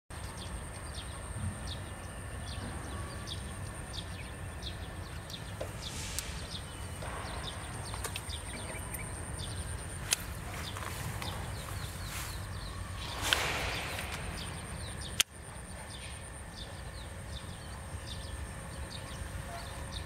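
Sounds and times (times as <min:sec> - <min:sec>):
small birds chirping: 0:00.2 - 0:20.0
low rumble: 0:01.0 - 0:19.2.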